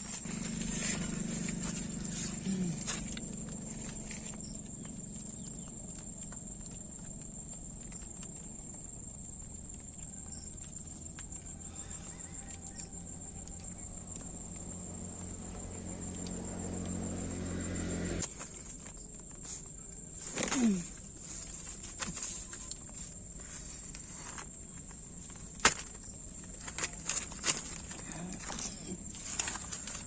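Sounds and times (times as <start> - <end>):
crickets calling: 0.0 - 30.0.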